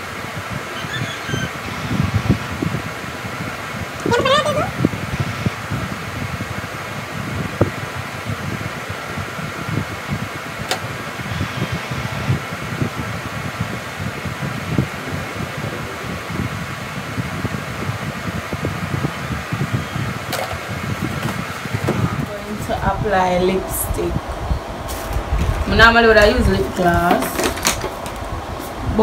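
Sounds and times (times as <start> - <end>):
electric fan whirring: 0.0 - 29.0.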